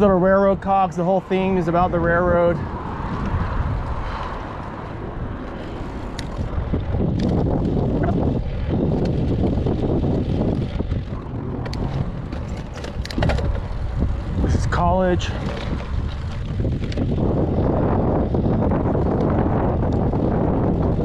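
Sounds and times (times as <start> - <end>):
tyres rumbling on pavement: 0.0 - 21.0
wind buffeting microphone: 0.0 - 21.0.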